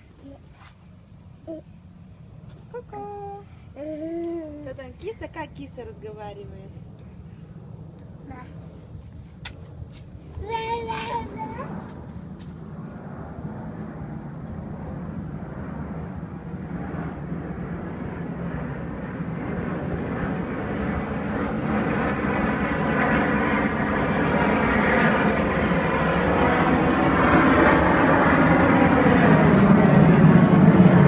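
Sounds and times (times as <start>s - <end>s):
aircraft engine noise: 0.0s - 31.0s.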